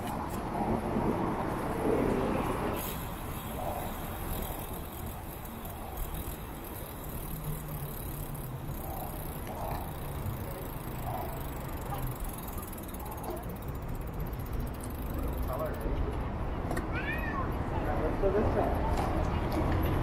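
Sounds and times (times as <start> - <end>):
traffic noise: 0.0 - 20.0
wind: 0.0 - 20.0.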